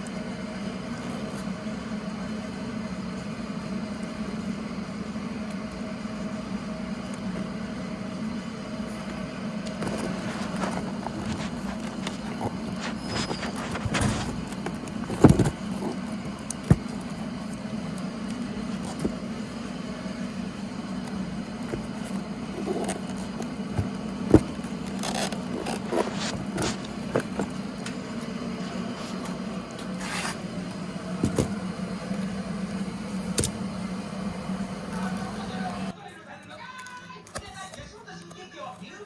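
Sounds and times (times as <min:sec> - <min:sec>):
steady low hum: 0:00.0 - 0:36.6.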